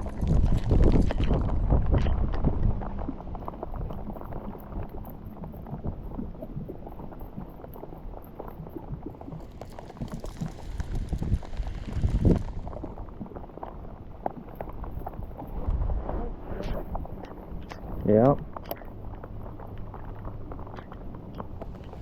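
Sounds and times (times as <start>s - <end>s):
wind on microphone: 0.0s - 7.4s, 8.7s - 18.6s, 20.4s - 22.0s
water patter and splashes: 0.0s - 22.0s.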